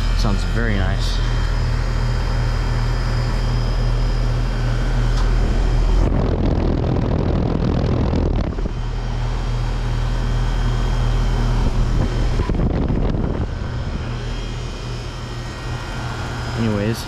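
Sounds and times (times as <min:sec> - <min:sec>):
compressor humming: 0:00.0 - 0:17.0
outdoor fan rushing: 0:00.0 - 0:17.0.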